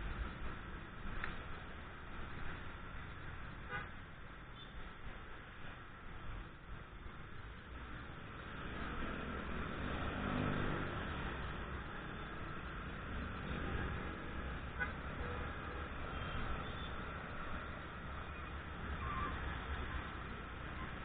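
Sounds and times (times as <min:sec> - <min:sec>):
passing vehicles: 0:00.0 - 0:21.0.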